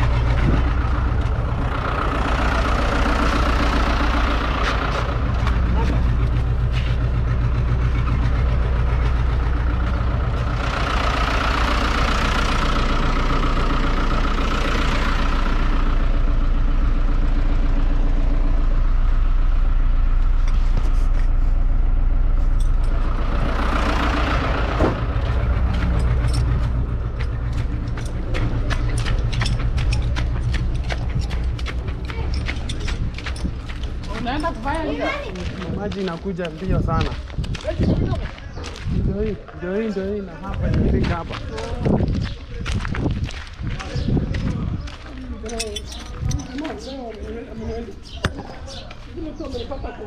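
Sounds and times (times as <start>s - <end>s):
truck engine idling: 0.0s - 50.0s.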